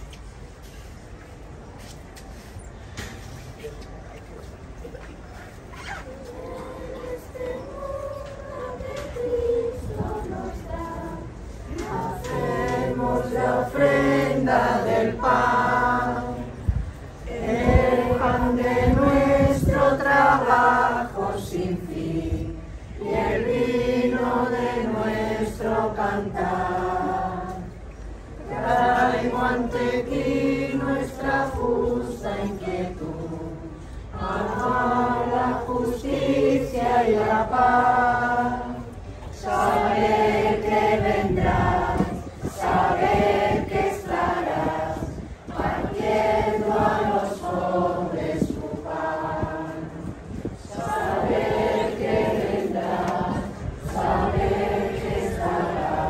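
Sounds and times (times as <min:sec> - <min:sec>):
group singing a hymn: 0:06.1 - 0:56.0.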